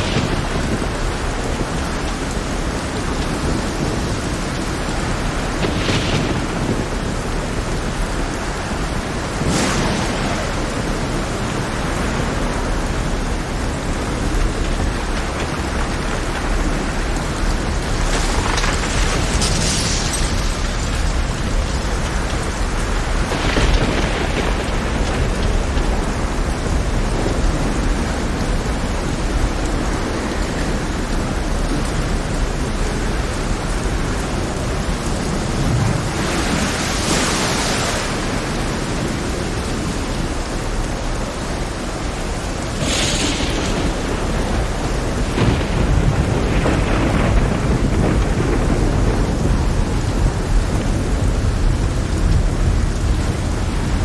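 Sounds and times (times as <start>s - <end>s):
deep thunder rumble: 0.0s - 54.0s
rain hissing: 0.0s - 54.0s.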